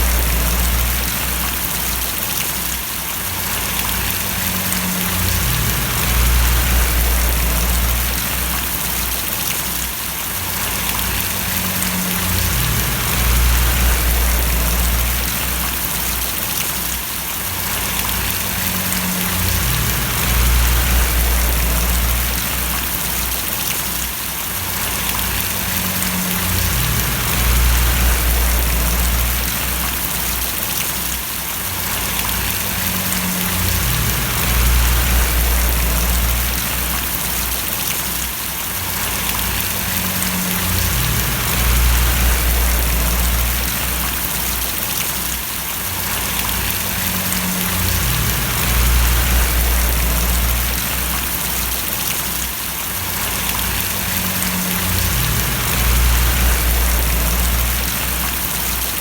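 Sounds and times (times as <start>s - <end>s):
low hum: 0.0s - 2.0s, 3.6s - 9.5s, 10.6s - 16.3s, 17.8s - 23.7s, 24.8s - 30.6s, 32.1s - 37.9s, 39.0s - 45.0s, 46.1s - 52.2s, 53.2s - 59.0s
steady rain patter: 0.0s - 59.0s.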